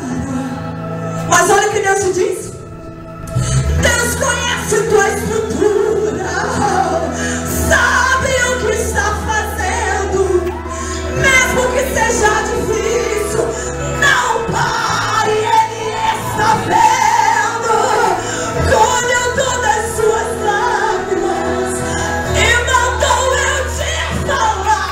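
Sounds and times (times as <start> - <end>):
woman singing gospel: 3.5 - 24.9.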